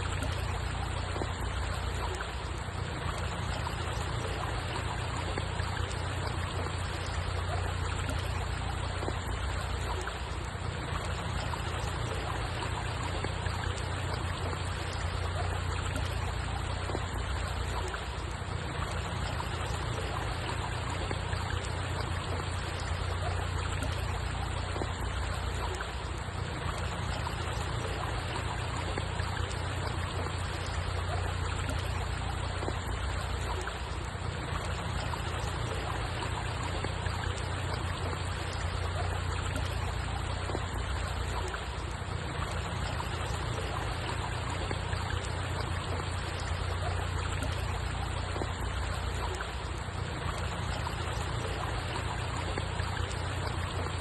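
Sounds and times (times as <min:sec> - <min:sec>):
water trickling and flowing: 0:00.0 - 0:54.0.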